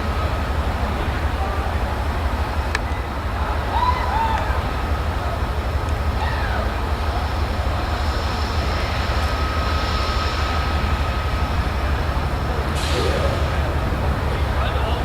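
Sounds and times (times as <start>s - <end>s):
diesel locomotive rumble: 0.0s - 15.0s.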